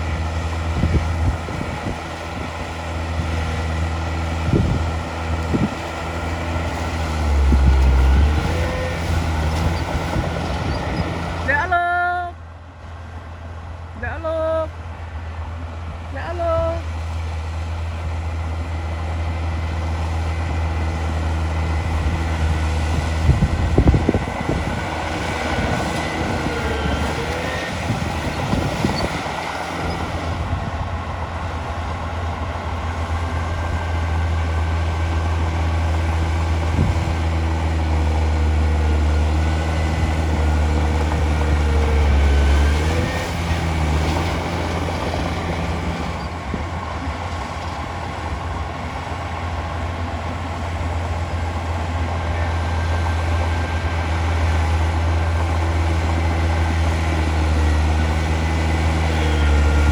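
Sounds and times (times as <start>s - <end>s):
heavy diesel engine humming: 0.0s - 59.9s.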